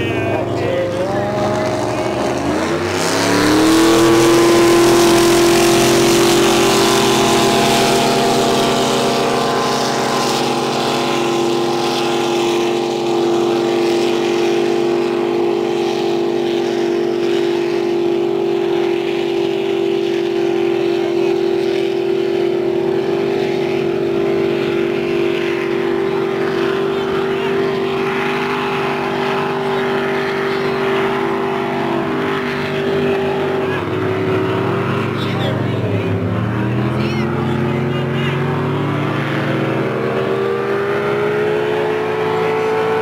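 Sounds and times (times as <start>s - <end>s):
racing boat engines high-revving: 0.0s - 43.0s.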